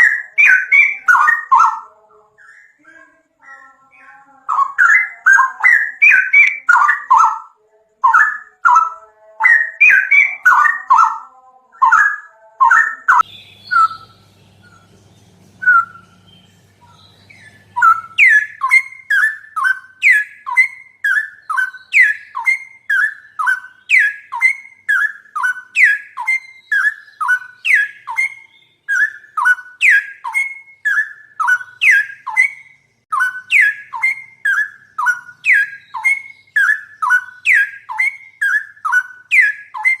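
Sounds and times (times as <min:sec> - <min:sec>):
bird whistled calls: 0:00.0 - 0:02.8, 0:04.5 - 0:11.2, 0:11.8 - 0:40.0.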